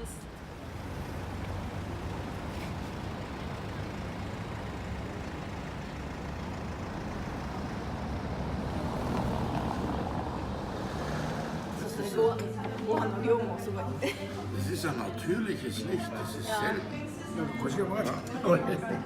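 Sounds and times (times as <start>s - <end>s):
road vehicle rumbling: 0.0s - 19.0s.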